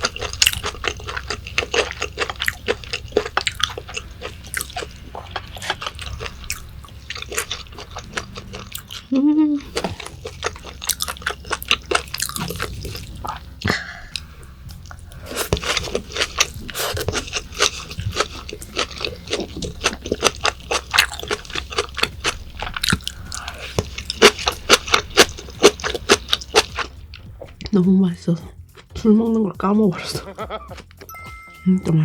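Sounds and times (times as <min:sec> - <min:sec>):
close chewing mouth clicks: 0:00.0 - 0:27.8.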